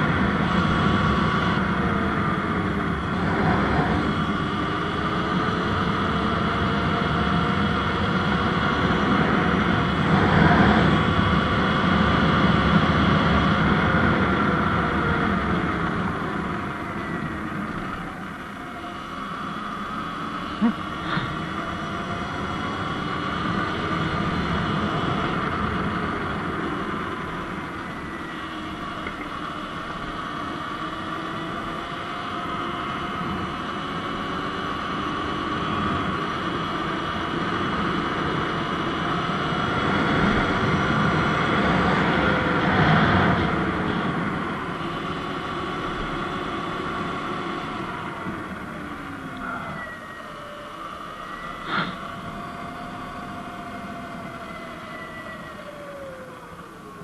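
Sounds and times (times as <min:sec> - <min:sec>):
electric motor whine: 0:00.0 - 0:57.0.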